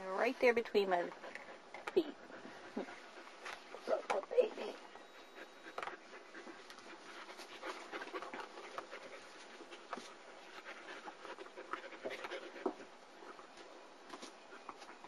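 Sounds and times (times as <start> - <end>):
soft rustling: 0.0 - 15.0
puppy panting: 1.0 - 13.6.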